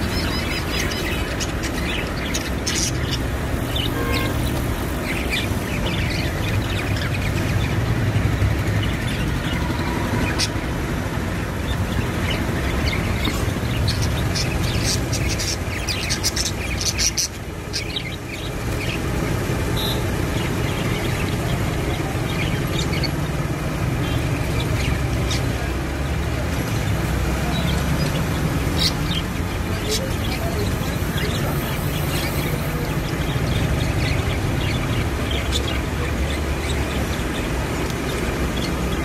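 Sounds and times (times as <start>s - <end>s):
budgerigars chirping: 0.0s - 39.0s.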